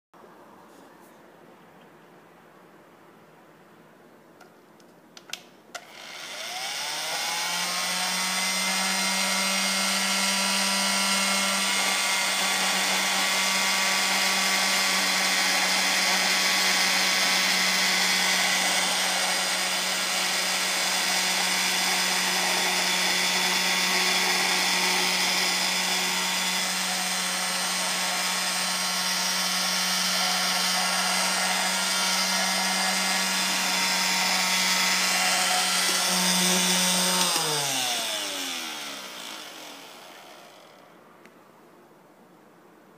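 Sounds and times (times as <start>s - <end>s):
vacuum cleaner motor running: 5.8s - 40.8s.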